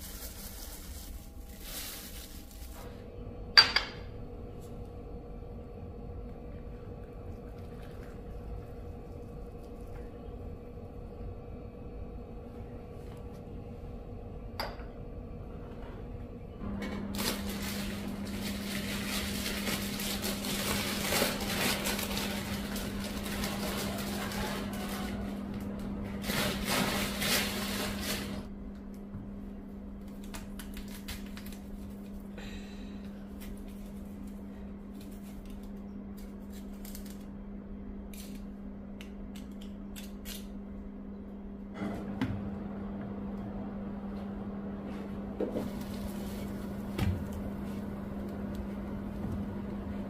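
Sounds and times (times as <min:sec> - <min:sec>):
kitchen hum: 0:00.0 - 0:50.0.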